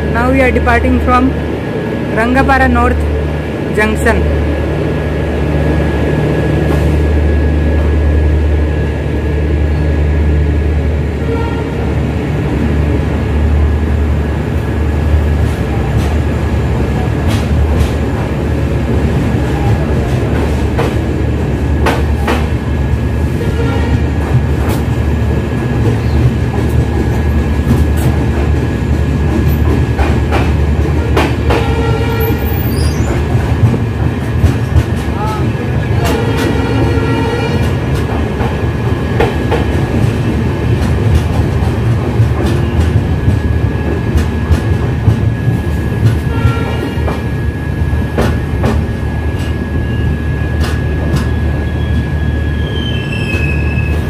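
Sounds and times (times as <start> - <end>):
train running gear rumbling: 0.0 - 54.0.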